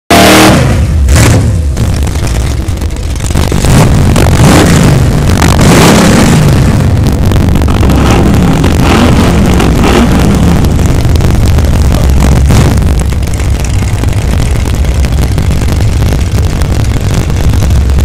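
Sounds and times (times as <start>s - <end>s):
race car engines revving: 0.1s - 18.0s.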